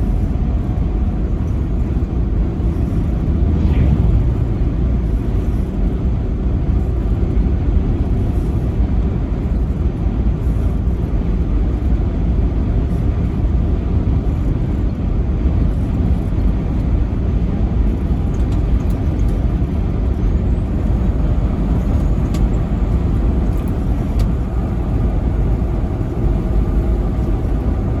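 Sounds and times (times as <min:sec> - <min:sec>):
truck engine and tyres rumbling: 0:00.0 - 0:28.0.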